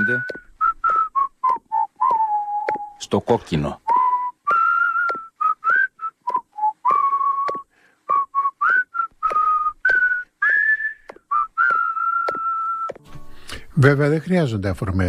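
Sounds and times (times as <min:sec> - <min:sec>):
person whistling a tune: 0:00.0 - 0:03.0, 0:03.9 - 0:13.6.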